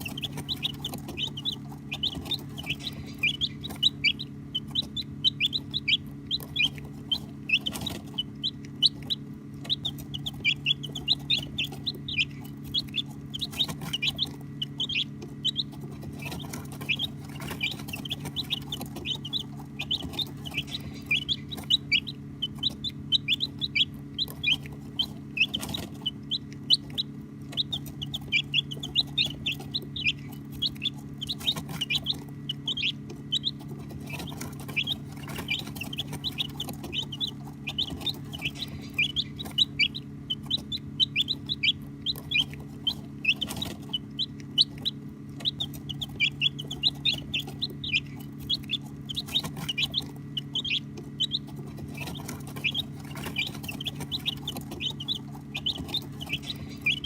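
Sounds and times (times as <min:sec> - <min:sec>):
baby chicks peeping: 0:00.0 - 0:57.0
steady low hum: 0:00.0 - 0:57.0.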